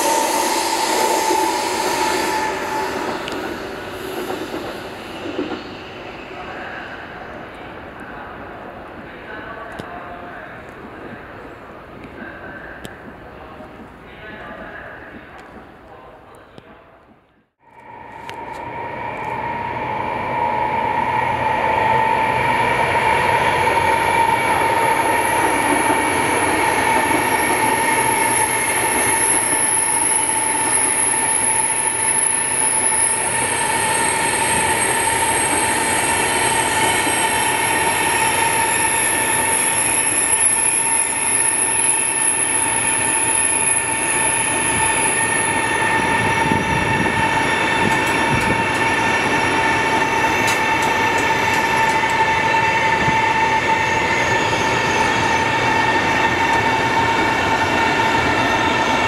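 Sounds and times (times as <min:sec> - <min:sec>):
high-speed train rushing and whining: 0:00.0 - 0:16.8, 0:17.6 - 0:59.0.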